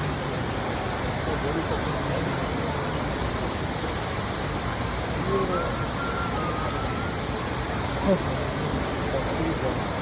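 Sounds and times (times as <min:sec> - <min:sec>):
faint voices of people: 0:00.0 - 0:10.0
waterfall rushing: 0:00.0 - 0:10.0.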